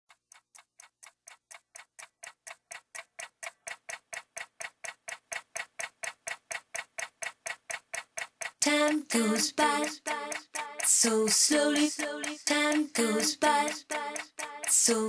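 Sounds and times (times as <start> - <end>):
clock ticking: 0.1 - 15.0.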